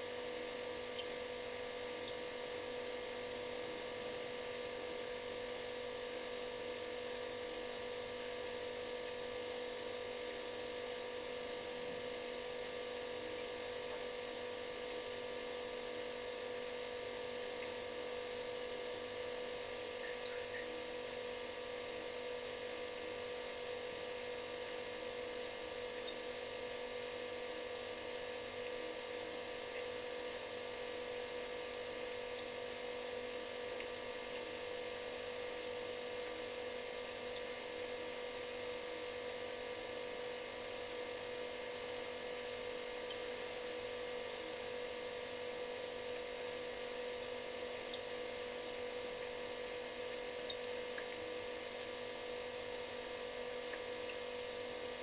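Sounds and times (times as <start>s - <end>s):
refrigerator humming: 0.0s - 55.0s.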